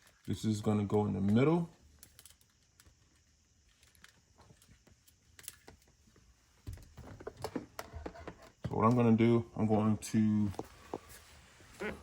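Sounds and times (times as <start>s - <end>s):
clicks and rustling of wires: 0.0s - 11.2s.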